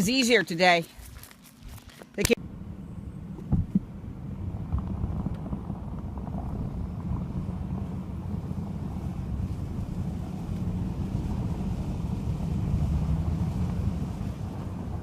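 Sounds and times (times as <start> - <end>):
wind buffeting microphone: 2.5 - 15.0.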